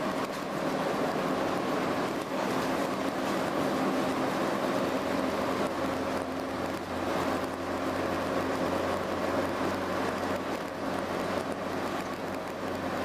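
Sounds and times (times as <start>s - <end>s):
bus diesel engine droning: 0.0s - 13.0s
road noise: 0.0s - 13.0s.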